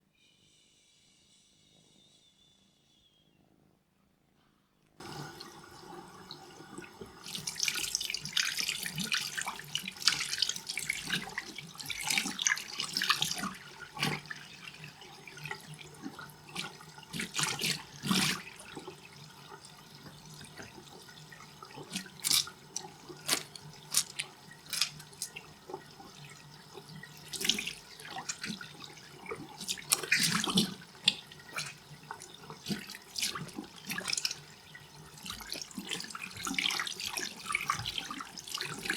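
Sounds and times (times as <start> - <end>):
water splashing and trickling: 5.2 - 38.9.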